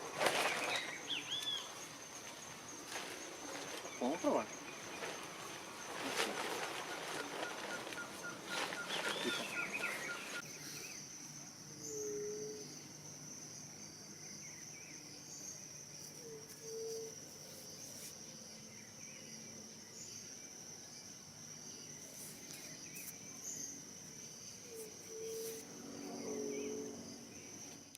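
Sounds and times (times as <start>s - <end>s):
crickets chirping: 0.0s - 27.9s.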